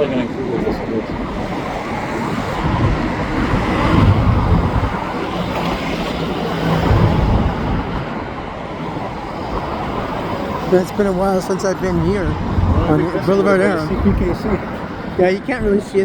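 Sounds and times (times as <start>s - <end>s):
highway traffic passing: 0.0s - 16.0s.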